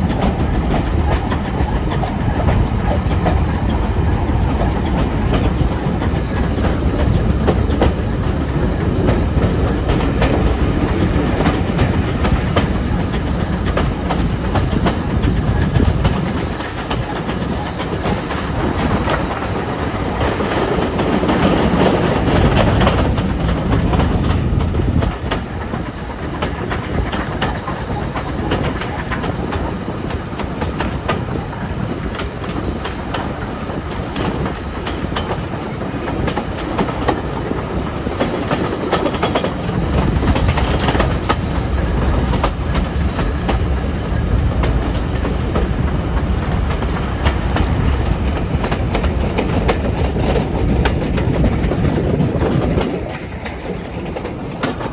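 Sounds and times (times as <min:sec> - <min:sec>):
train rolling rumble: 0:00.0 - 0:54.9
wheels clicking over rail joints: 0:00.0 - 0:54.9.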